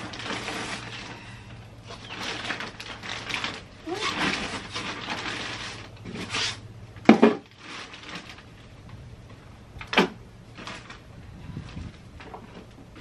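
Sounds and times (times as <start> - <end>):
plastic bag rustling: 0.0 - 13.0.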